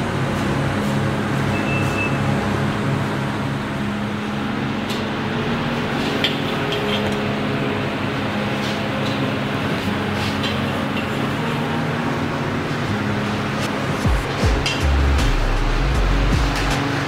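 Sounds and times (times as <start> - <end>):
mechanical roar with low hum: 0.0 - 17.0.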